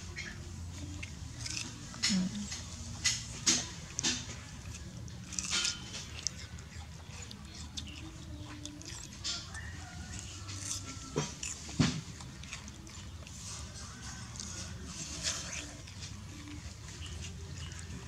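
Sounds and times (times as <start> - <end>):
monkey chewing watermelon: 0.0 - 18.0.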